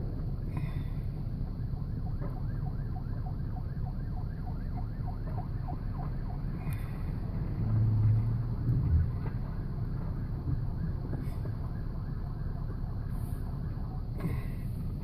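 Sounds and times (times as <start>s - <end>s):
steady low rumble: 0.0s - 15.0s
faint siren yelping: 0.2s - 7.5s, 9.0s - 15.0s.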